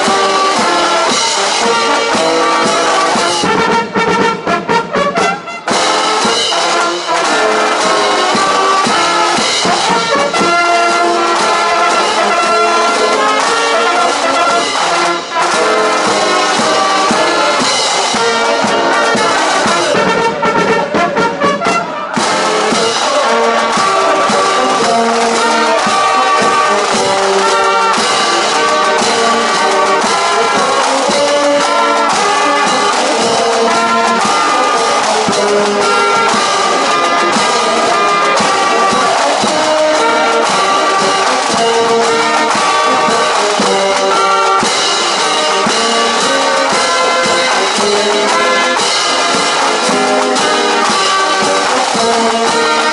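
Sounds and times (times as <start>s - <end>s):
brass band playing a march: 0.0s - 52.9s.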